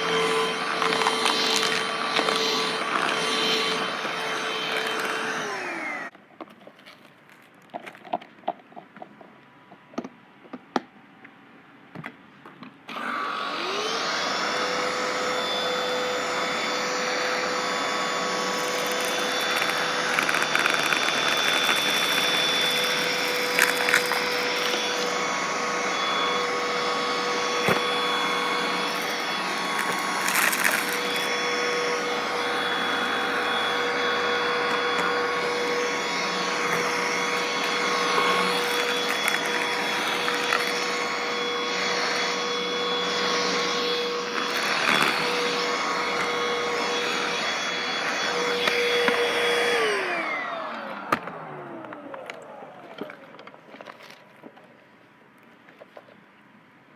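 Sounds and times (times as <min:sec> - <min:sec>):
vacuum cleaner motor whine: 0:00.0 - 0:06.1, 0:12.9 - 0:54.2.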